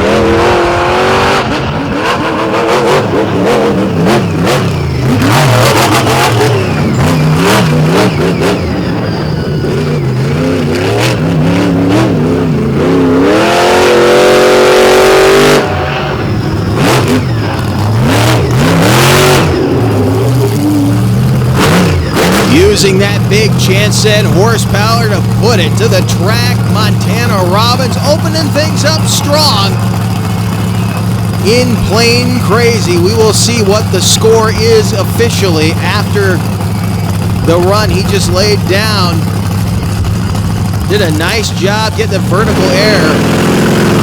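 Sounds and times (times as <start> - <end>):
monster truck engine revving: 0.0 - 44.0.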